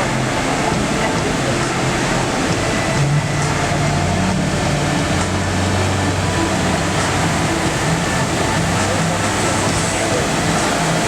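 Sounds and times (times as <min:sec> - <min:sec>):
roar of rapids: 0:00.0 - 0:11.0.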